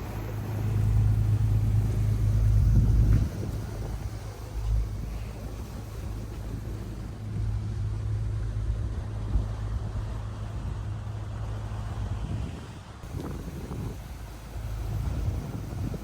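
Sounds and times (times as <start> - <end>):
engine low drone: 0.0 - 16.0.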